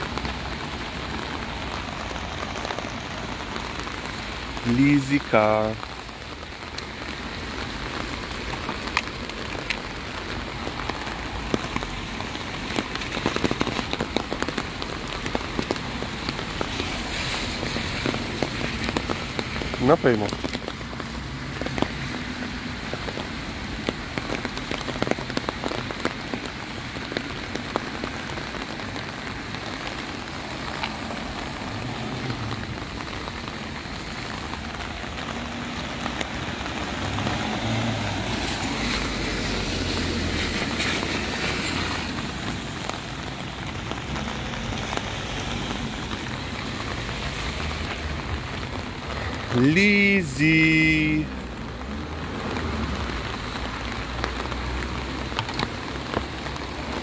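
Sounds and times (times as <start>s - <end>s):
car tyres on wet road: 0.0s - 57.0s
heavy rain on pavement: 0.0s - 57.0s.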